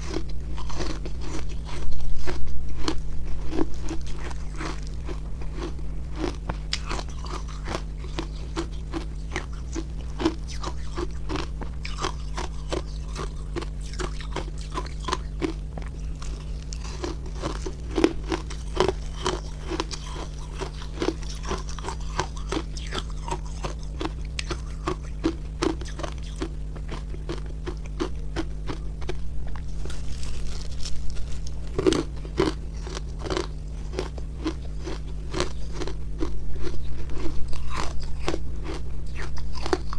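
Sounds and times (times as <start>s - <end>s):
crunching ice: 0.0s - 39.9s
low steady hum: 0.0s - 39.9s.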